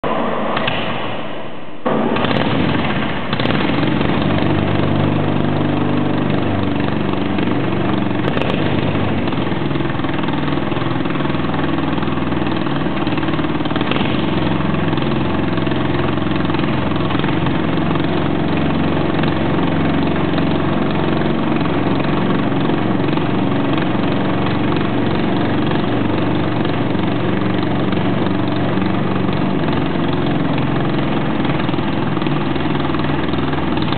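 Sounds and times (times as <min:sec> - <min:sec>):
radial aircraft engine running: 0:01.9 - 0:33.9.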